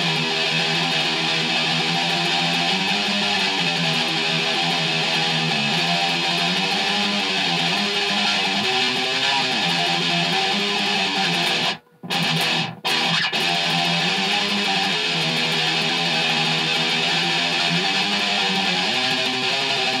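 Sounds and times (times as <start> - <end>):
electric guitar riff: 0.0 - 20.0.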